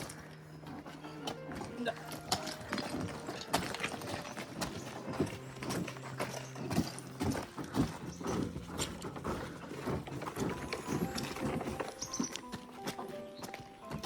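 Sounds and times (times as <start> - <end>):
background music with clip-clop rhythm: 0.0 - 14.0.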